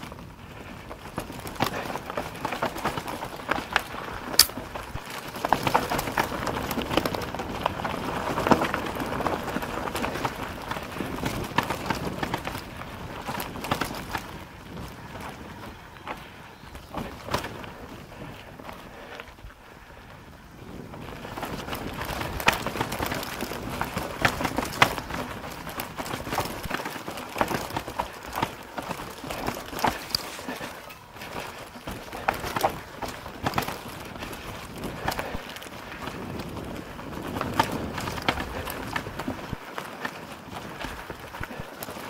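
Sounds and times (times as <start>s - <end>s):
bike knocking and rattling: 0.0s - 42.0s
bike tyre noise on trail: 0.0s - 42.0s.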